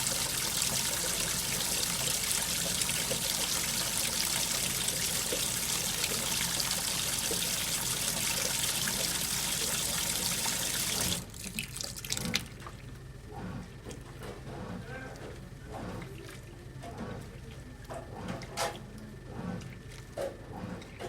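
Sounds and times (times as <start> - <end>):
water running in washing machine: 0.0 - 21.0.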